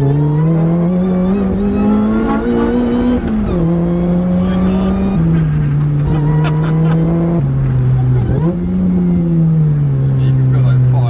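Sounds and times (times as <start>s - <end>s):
supercharged car engine running hard: 0.0s - 11.0s.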